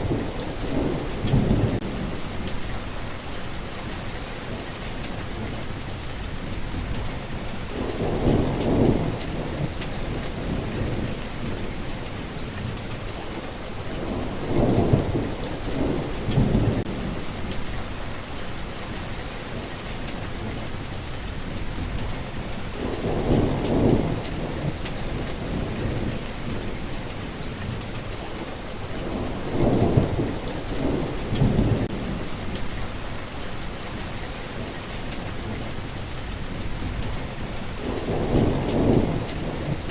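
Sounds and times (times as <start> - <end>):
rolling thunder: 0.0 - 13.1, 13.8 - 39.9
steady rain: 0.0 - 39.9.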